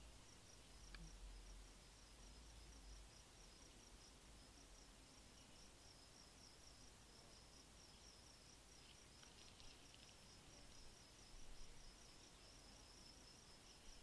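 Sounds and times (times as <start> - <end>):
faint low hum: 0.0 - 14.0
insect chirping: 0.0 - 14.0.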